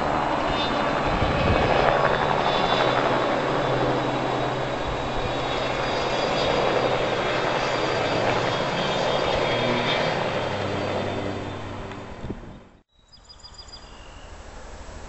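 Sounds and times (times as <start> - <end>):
aircraft engine drone overhead: 0.0 - 15.0.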